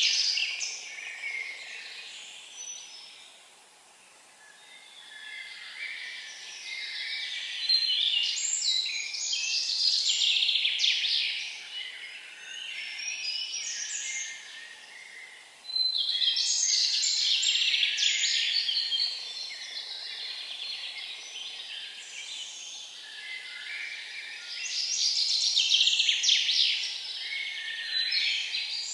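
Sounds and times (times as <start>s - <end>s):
songbirds singing trilled phrases: 4.7s - 28.9s.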